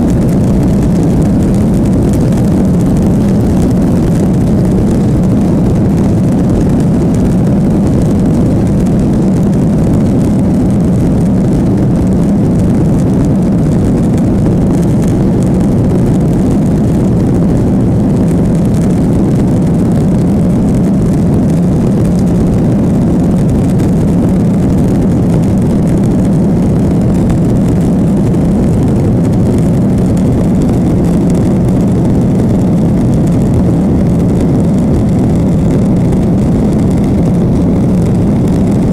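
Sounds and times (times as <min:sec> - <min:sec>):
jet engine roar in cabin: 0:00.0 - 0:38.9.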